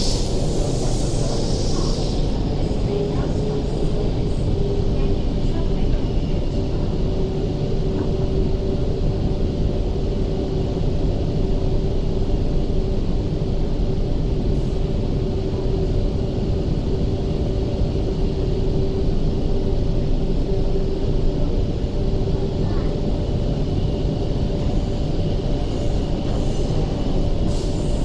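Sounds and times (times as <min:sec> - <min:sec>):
electric train rumble: 0:00.0 - 0:28.0
steady humming tone: 0:00.0 - 0:28.0.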